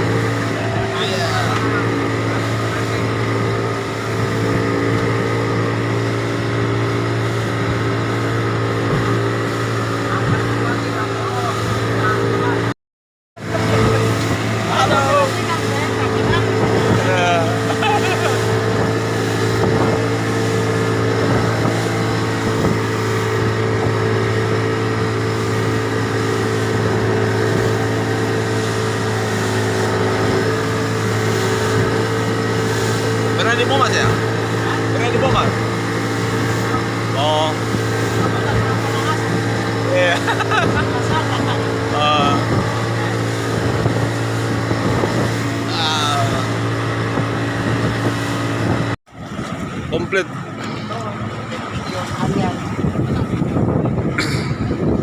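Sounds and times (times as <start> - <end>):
boat engine droning: 0.0 - 12.8, 13.4 - 55.0.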